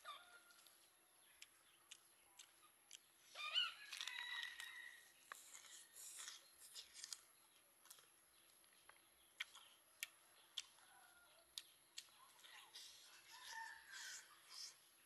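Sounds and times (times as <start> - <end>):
chewing crispy fried chicken: 0.0 - 14.8
bird chirping: 0.0 - 15.0.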